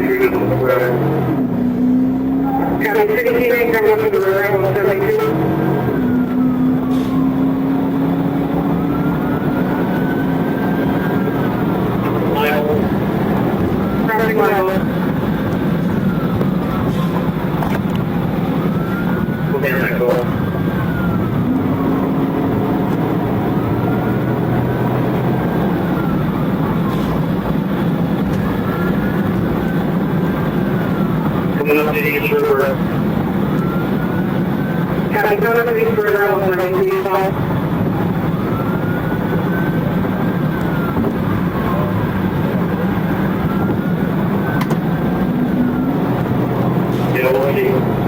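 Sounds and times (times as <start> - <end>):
siren wailing: 0.0 - 48.0
vehicle engine and road noise: 0.0 - 48.0.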